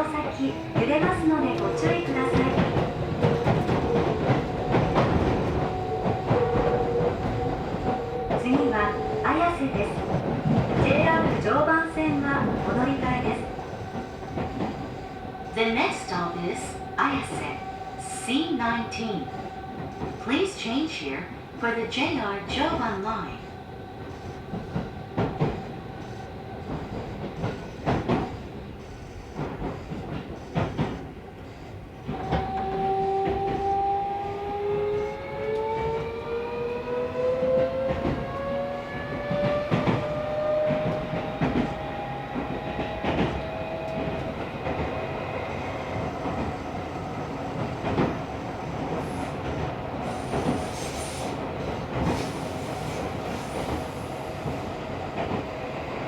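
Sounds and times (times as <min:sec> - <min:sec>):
train motors whining: 0:00.0 - 0:55.3.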